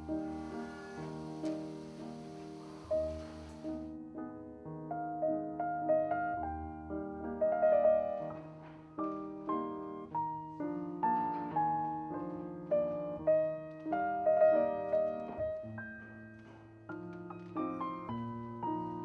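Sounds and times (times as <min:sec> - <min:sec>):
solo piano melody: 0:00.0 - 0:19.0.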